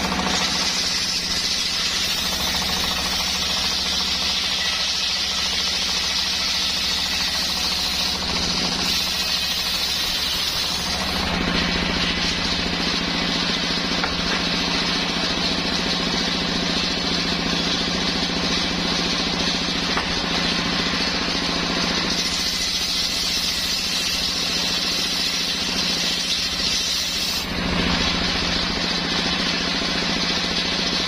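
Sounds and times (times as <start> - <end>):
sawmill engine running: 0.0 - 31.0.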